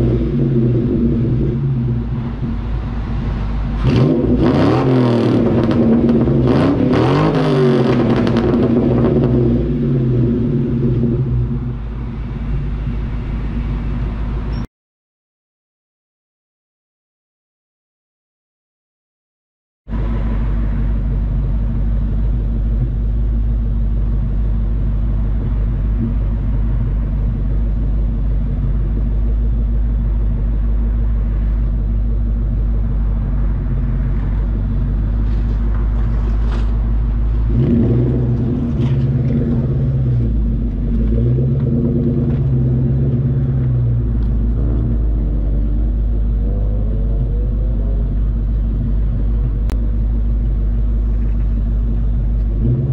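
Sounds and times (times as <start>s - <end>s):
car exhaust drone: 0.0s - 14.7s, 19.9s - 52.9s.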